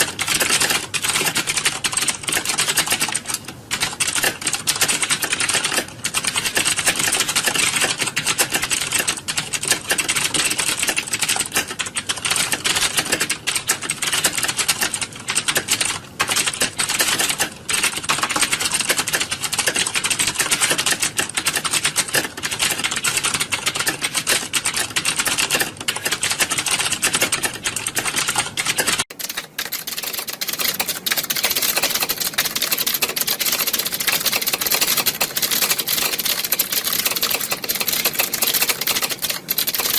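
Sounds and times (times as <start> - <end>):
keyboards typing clatter: 0.0 - 39.9.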